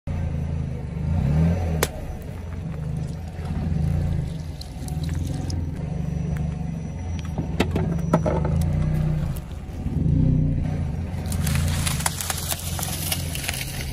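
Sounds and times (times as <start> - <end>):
car engine humming: 0.0 - 13.9.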